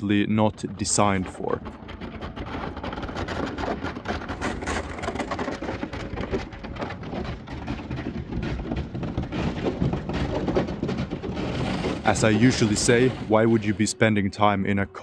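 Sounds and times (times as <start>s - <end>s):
ice cracking against boat hull: 0.4s - 13.5s.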